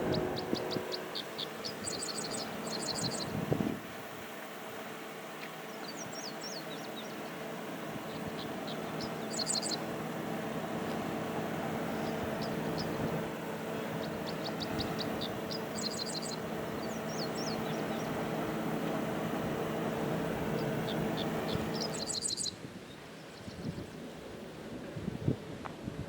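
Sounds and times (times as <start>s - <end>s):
small birds chirping: 0.0s - 24.0s
train diesel hum and rumble: 0.0s - 26.0s.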